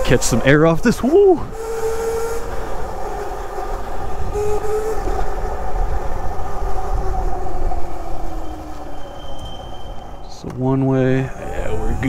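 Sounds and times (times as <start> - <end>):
electric minibike motor whining: 0.0 - 10.2
wind rumble on microphone: 0.0 - 12.0.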